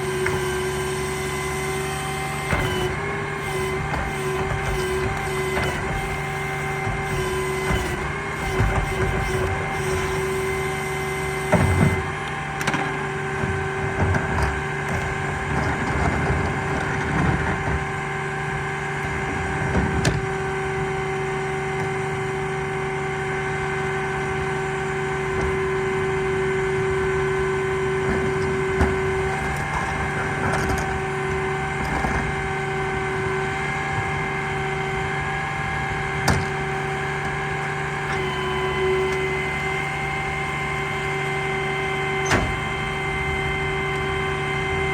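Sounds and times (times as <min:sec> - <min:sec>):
garbage truck whining: 0:00.0 - 0:44.9.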